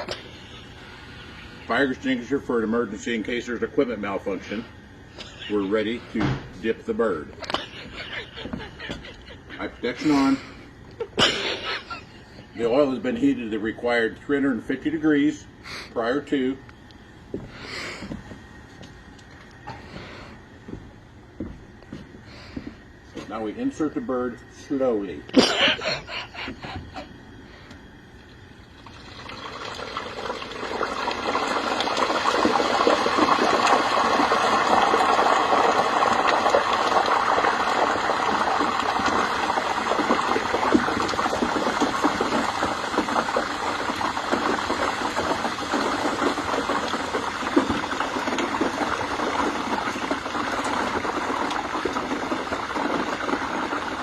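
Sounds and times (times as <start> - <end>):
oil boiling and crackling: 0.0 - 54.0.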